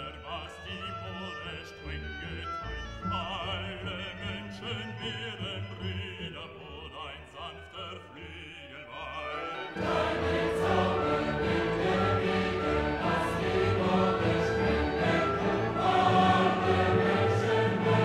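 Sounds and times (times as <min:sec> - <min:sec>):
background music: 0:00.0 - 0:18.0
operatic singing voice: 0:00.0 - 0:18.0.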